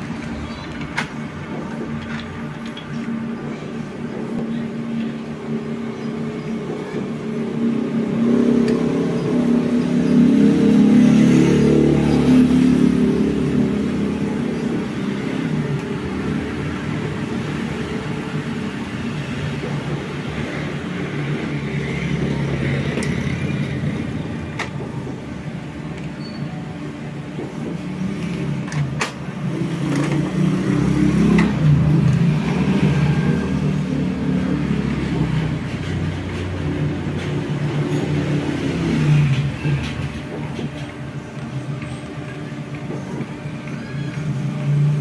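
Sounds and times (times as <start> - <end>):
printer motors whirring: 0.0 - 45.0.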